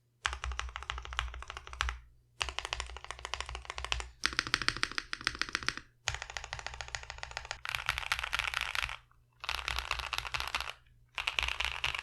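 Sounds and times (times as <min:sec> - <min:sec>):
fast typing on mechanical keyboard: 0:00.2 - 0:12.0.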